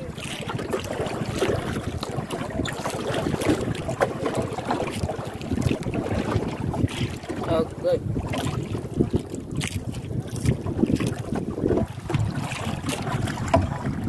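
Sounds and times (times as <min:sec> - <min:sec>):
water slapping against boat hull: 0:00.0 - 0:14.0
wind buffeting microphone: 0:00.0 - 0:14.0.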